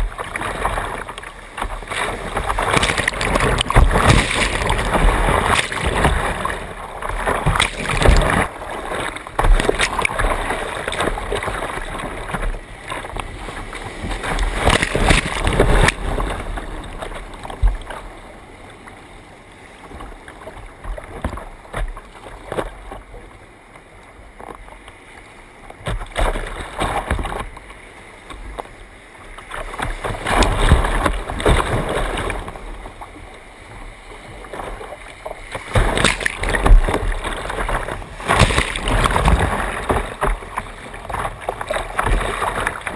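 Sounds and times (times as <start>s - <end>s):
paddle splashes: 0.0s - 42.9s.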